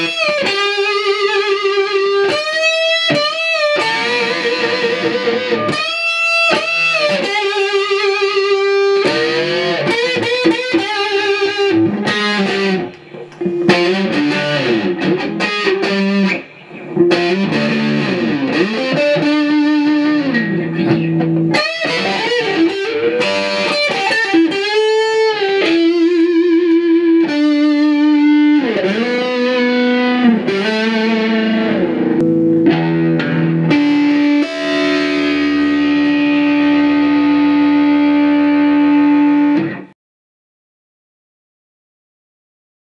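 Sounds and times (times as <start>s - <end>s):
electric guitar lead line: 0.0s - 40.0s.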